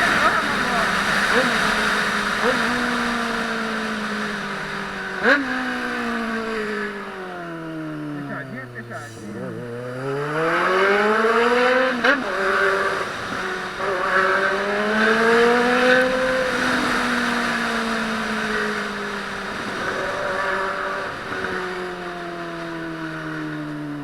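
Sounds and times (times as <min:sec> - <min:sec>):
motorcycle engine revving: 0:00.0 - 0:24.0
wind and road noise: 0:00.0 - 0:24.0.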